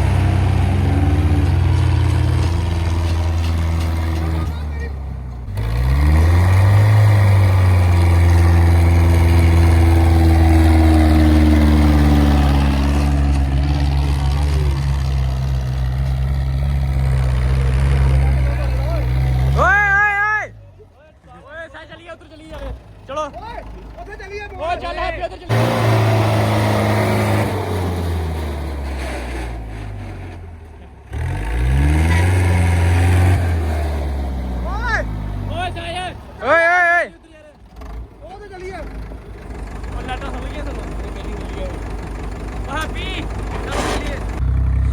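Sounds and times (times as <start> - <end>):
tractor engine revving: 0.0 - 20.3, 22.5 - 36.7, 37.5 - 44.9.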